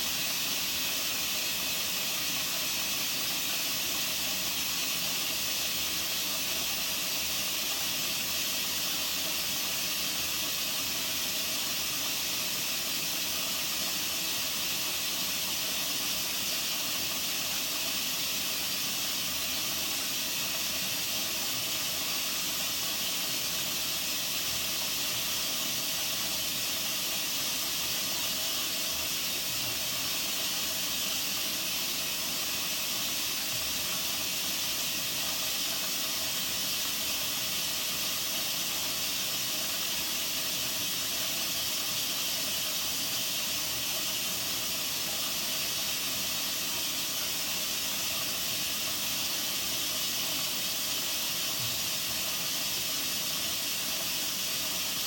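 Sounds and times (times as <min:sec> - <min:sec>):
washing machine hissing: 0:00.0 - 0:55.0.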